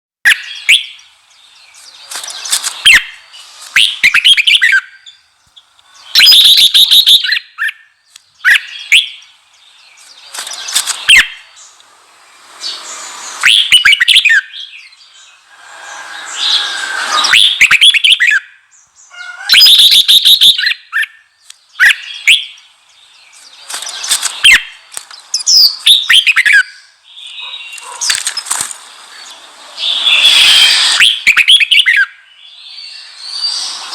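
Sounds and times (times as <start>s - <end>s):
bulbul singing: 0.3s - 28.5s.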